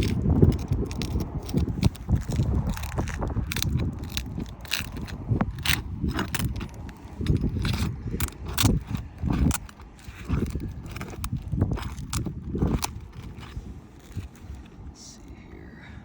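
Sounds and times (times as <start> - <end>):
metal pry bar scraping shingles: 0.0 - 14.9.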